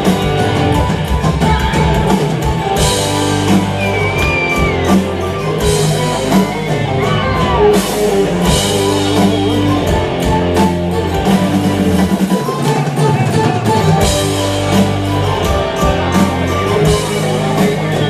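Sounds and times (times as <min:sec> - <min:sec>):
drum kit: 0:00.0 - 0:18.0
electric guitars: 0:00.0 - 0:18.0.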